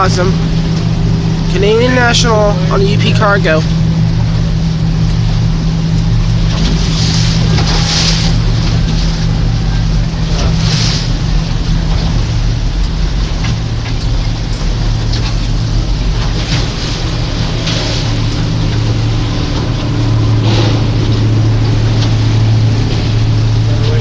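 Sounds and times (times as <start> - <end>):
boat motor running: 0.0 - 24.0
water rushing: 0.0 - 24.0.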